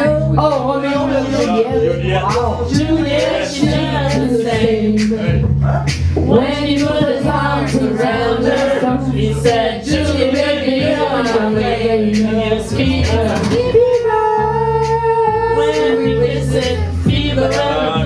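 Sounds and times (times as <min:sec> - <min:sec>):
instrumental accompaniment: 0:00.0 - 0:18.0
person singing: 0:00.0 - 0:18.0.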